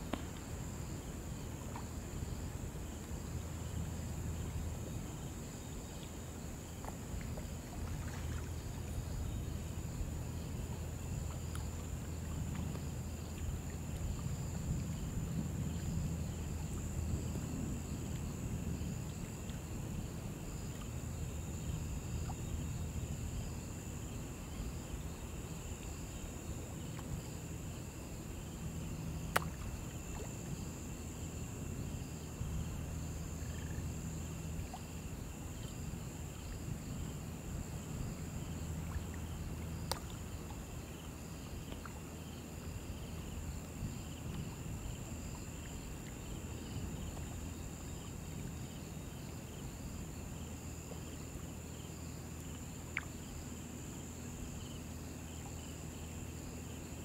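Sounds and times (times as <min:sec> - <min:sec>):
shallow river water rushing: 0:00.0 - 0:51.5
insects droning: 0:00.0 - 0:57.0
pulsing insect chirp: 0:00.0 - 0:57.0.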